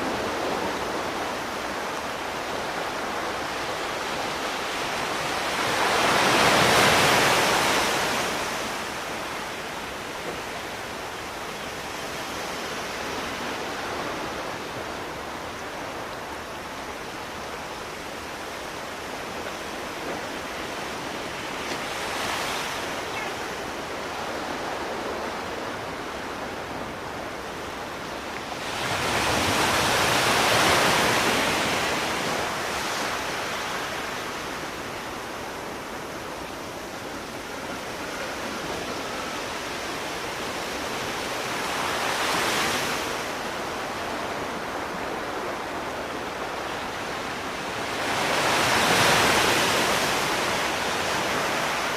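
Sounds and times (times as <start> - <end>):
sea waves washing onto shore: 0.0 - 51.9.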